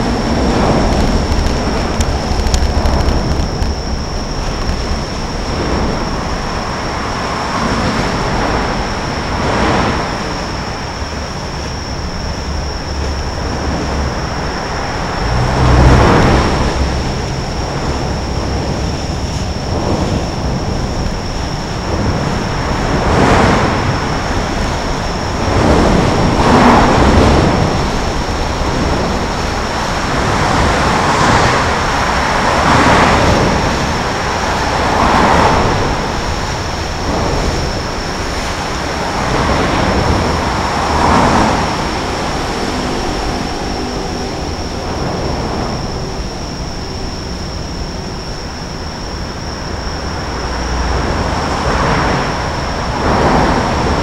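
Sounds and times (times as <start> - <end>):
large vehicle low rumble: 0.0 - 54.0
road traffic rushing past: 0.0 - 54.0.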